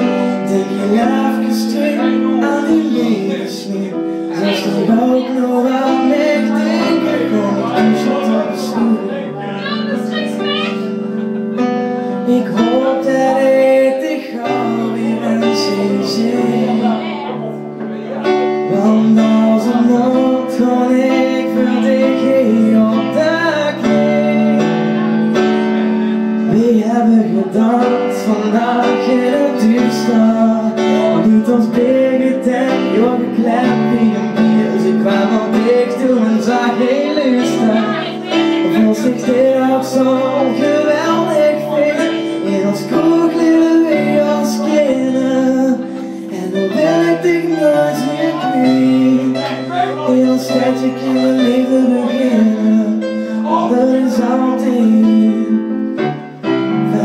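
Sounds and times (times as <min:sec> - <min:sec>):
person singing into microphone: 0:00.0 - 0:11.0, 0:12.2 - 0:17.8, 0:18.4 - 0:57.0
keyboard chords: 0:00.0 - 0:57.0.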